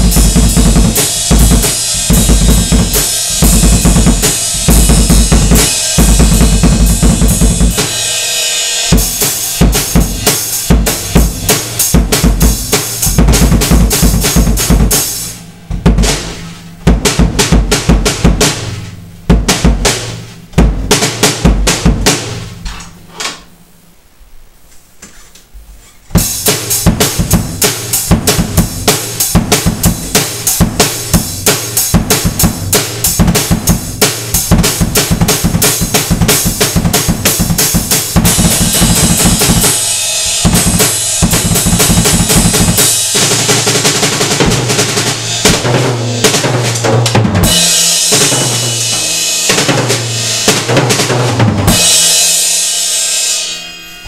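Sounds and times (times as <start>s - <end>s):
cymbals washing: 0.0s - 23.1s, 26.2s - 54.0s
drum kit played fast: 0.0s - 23.1s, 26.1s - 54.0s.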